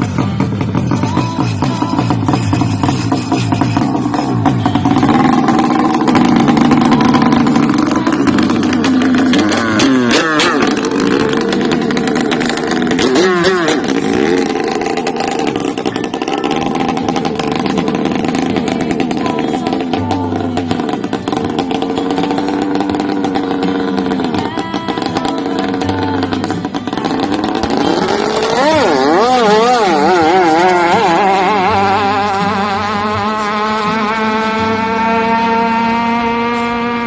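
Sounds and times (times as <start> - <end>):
engine revving: 0.0 - 37.0
engines running: 0.0 - 37.0.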